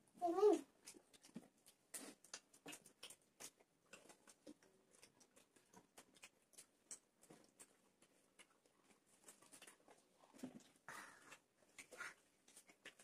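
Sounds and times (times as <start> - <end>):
people eating and chewing: 0.0 - 13.0.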